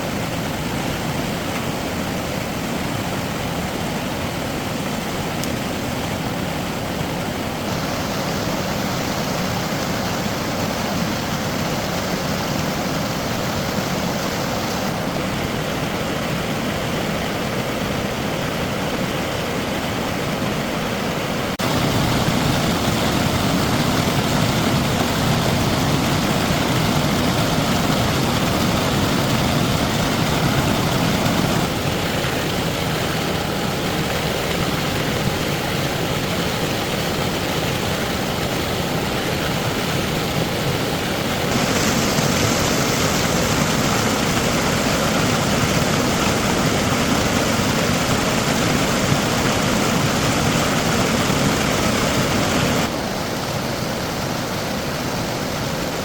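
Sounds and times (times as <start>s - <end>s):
machine running steadily: 0.0s - 56.0s.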